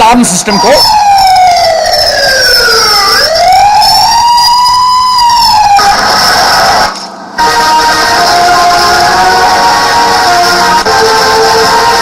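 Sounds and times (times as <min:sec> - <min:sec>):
siren wail from tape: 0:00.0 - 0:12.0.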